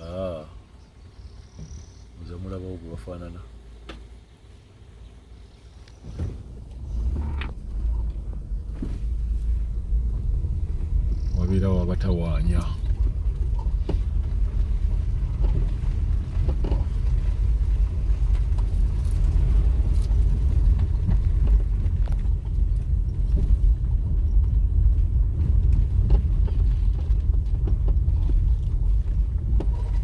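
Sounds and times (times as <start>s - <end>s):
vehicle moving along road: 0.0s - 30.0s.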